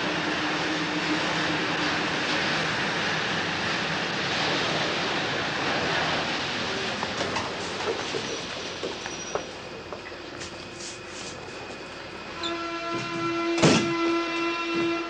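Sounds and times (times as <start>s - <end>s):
train pulling into station: 0.0s - 15.0s
train wheels and running gear: 0.0s - 15.0s.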